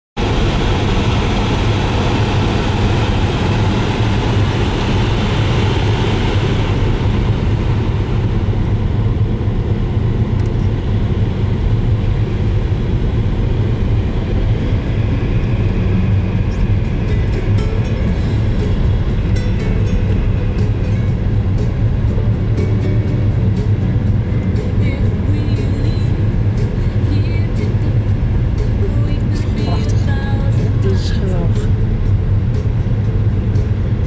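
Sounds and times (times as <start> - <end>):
car engine and tyre rumble: 0.2 - 34.0.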